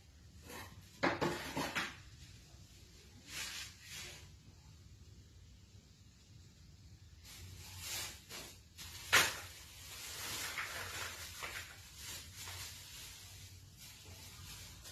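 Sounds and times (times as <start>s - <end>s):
rustling and shuffling: 0.2s - 4.5s, 7.1s - 14.9s.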